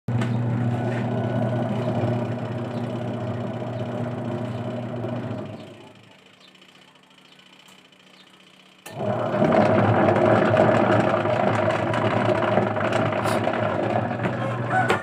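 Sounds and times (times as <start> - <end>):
washing machine motor hum: 0.1 - 15.0.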